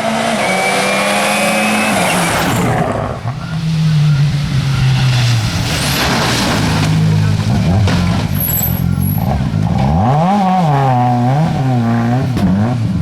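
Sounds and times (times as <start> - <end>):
rally car engine running hard: 0.0 - 13.0.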